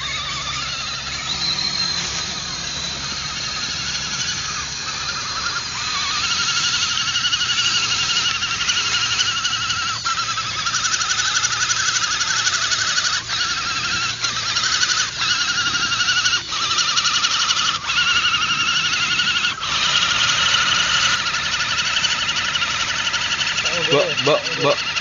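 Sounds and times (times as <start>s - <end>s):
electric motors whining: 0.0s - 25.0s.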